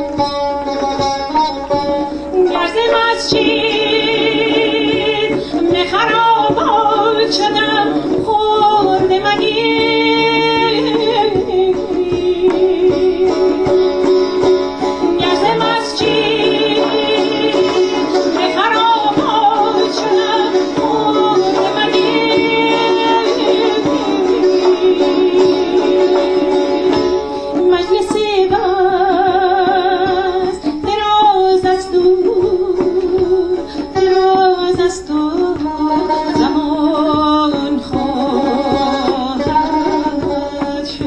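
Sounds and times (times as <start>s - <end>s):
hand drum: 0.0s - 41.0s
plucked lute: 0.0s - 41.0s
woman singing with trills: 2.3s - 41.0s.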